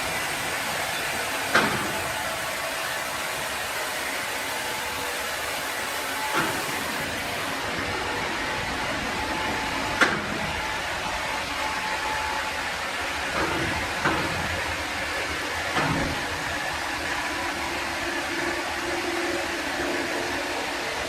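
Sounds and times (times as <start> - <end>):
woodworking machinery running: 0.0 - 21.0.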